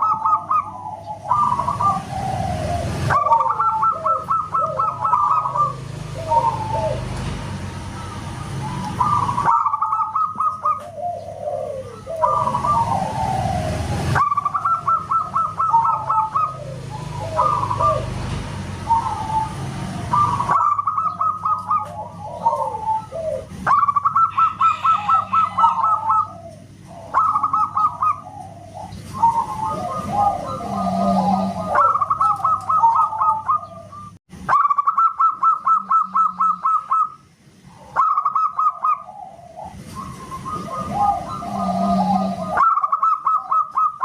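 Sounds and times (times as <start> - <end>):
doves cooing: 0.0 - 44.0.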